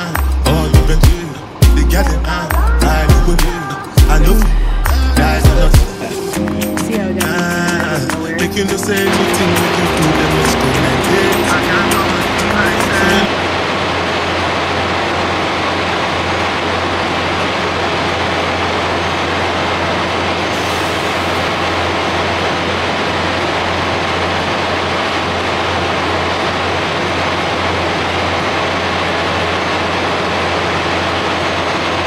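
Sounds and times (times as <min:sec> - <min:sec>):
diesel truck engines idling: 0:00.0 - 0:32.0.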